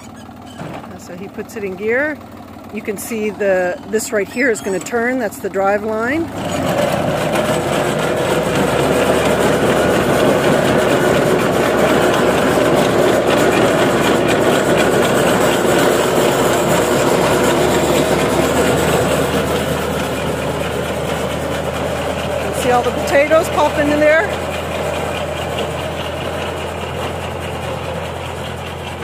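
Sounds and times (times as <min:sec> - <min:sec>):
conveyor rattling and clattering: 0:00.0 - 0:29.0
tractor engine running under load: 0:00.0 - 0:29.0.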